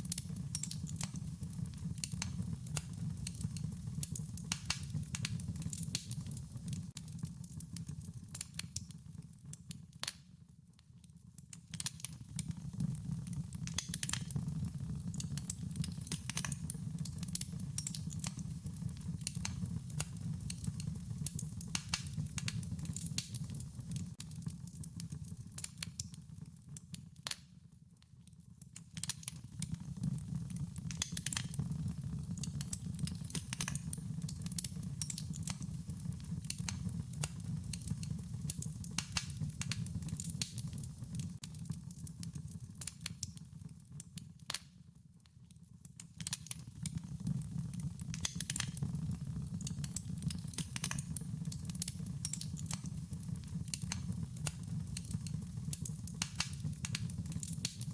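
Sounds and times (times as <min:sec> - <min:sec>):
low rumble of burning: 0:00.0 - 0:09.6, 0:11.8 - 0:26.9, 0:28.7 - 0:44.1, 0:46.2 - 0:57.9
wood fire crackling: 0:00.0 - 0:10.4, 0:11.3 - 0:44.8, 0:45.8 - 0:57.9.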